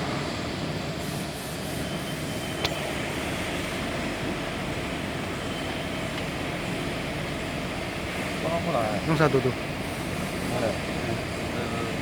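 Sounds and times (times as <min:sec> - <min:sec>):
industrial machinery hum: 0:00.0 - 0:12.0.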